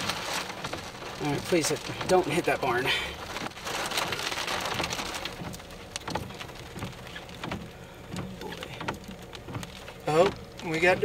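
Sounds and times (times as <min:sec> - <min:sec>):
rain on car windshield and roof: 0:00.0 - 0:11.0.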